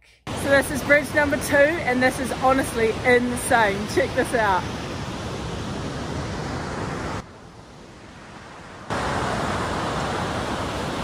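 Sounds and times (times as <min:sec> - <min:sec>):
fast river rushing: 0:00.3 - 0:11.0.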